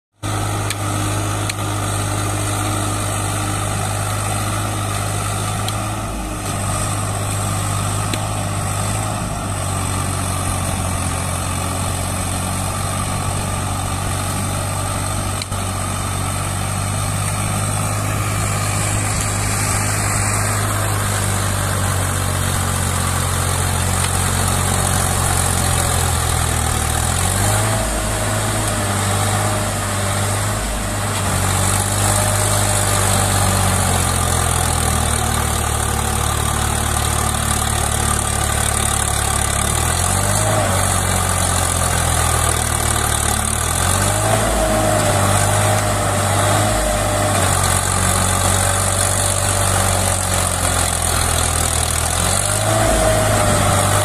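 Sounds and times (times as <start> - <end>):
tractor diesel engine under load: 0.1 - 54.0.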